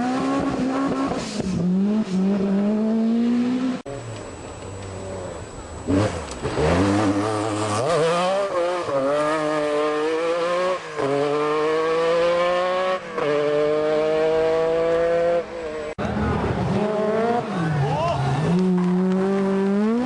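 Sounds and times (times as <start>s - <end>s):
rally car engine accelerating: 0.0s - 20.0s.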